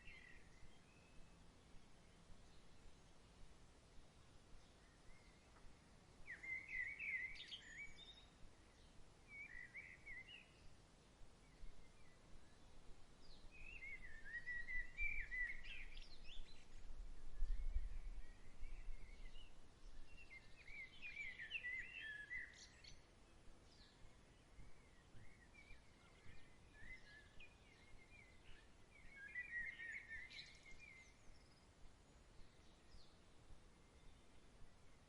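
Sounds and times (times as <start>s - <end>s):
faint outdoor background: 0.0s - 35.0s.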